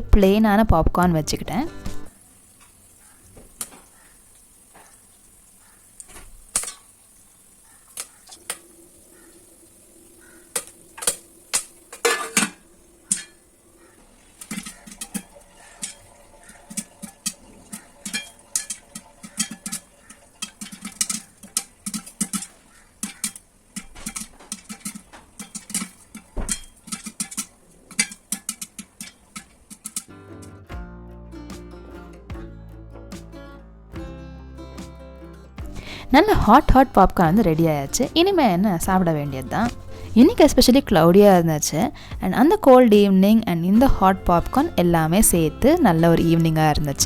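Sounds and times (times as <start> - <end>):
popcorn popping in a pan: 1.8 - 30.2, 35.6 - 47.0.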